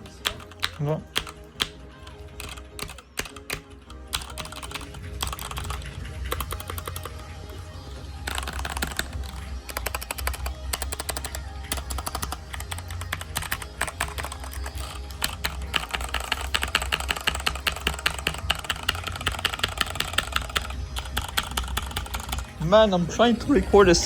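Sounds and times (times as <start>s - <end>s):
rapid clicking: 0.0s - 23.4s.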